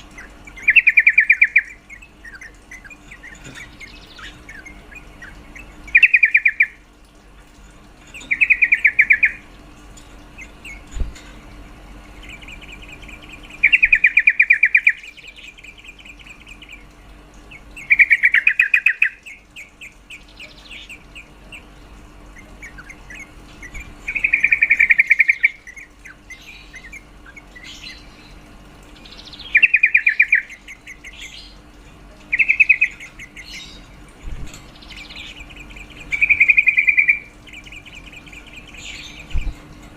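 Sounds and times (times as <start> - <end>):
faint bird twittering: 0.0 - 6.9, 7.5 - 39.8
bulbul rattling chatters: 0.0 - 39.9.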